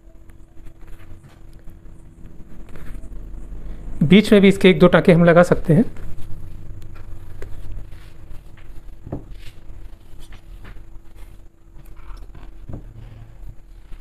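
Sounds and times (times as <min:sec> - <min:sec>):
faint steady hum: 0:00.0 - 0:14.0
cloth rustling: 0:00.1 - 0:03.4, 0:05.9 - 0:14.0.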